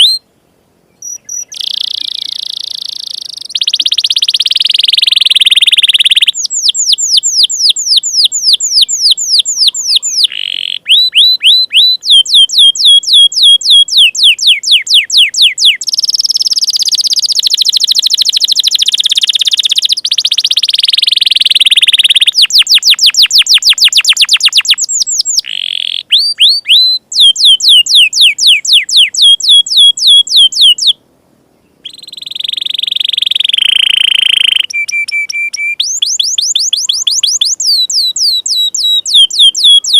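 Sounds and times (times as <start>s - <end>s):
canary singing trills: 0.0s - 0.2s, 0.9s - 31.0s, 31.6s - 39.9s.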